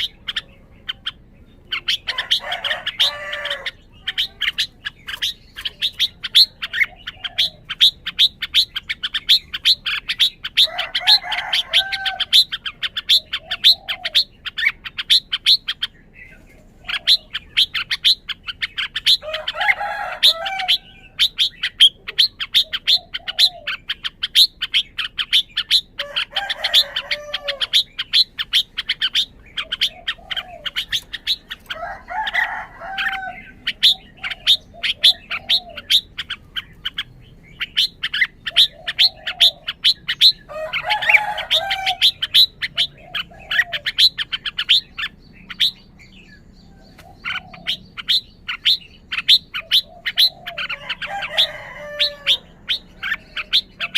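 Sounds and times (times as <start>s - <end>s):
bird singing warbled phrases: 0.0s - 53.9s.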